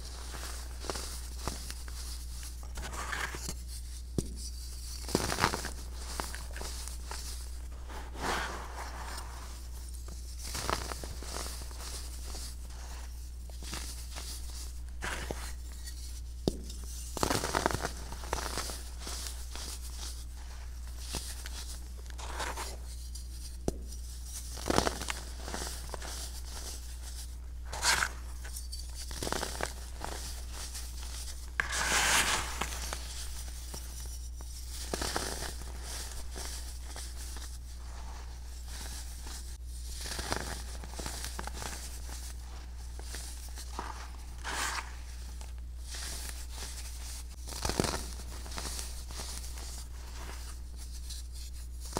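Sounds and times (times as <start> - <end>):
baking soda crunching and crumbling: 0.0 - 51.9.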